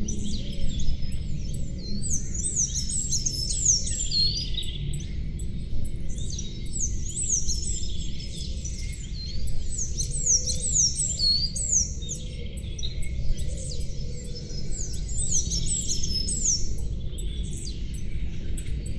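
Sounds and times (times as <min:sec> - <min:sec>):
songbirds chirping and singing: 0:00.0 - 0:18.9.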